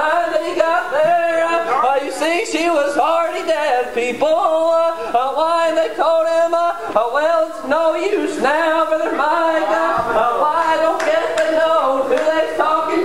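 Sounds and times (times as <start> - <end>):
man preaching in sing-song chant: 0.0 - 13.0.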